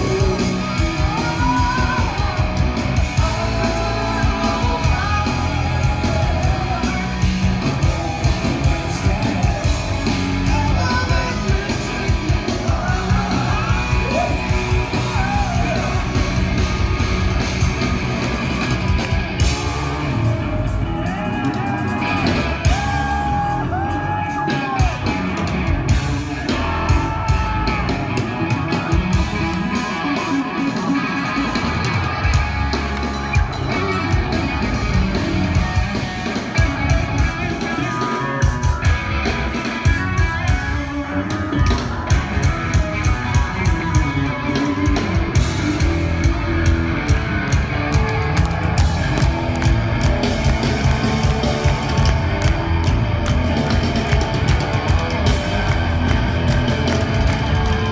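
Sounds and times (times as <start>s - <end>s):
drum kit: 0.0s - 57.9s
electric bass: 0.0s - 57.9s
electric guitar: 0.0s - 57.9s.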